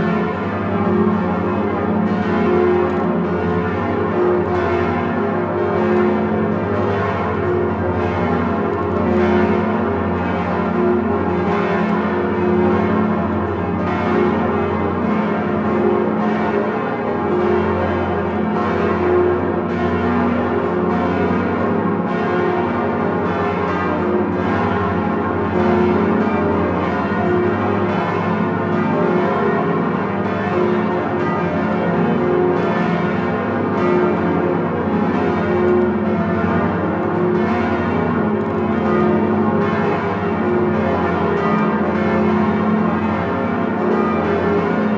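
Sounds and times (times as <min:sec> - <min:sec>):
church bells ringing: 0:00.0 - 0:44.9.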